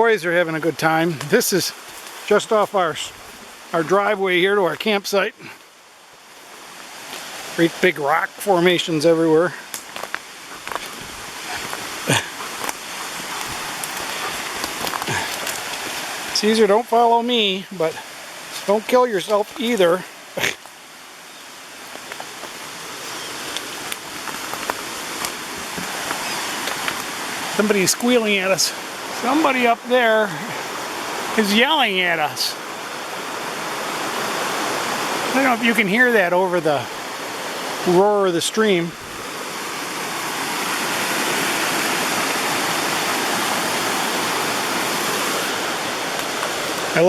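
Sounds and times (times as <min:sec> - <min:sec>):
fast stream rushing: 0:00.0 - 0:47.0.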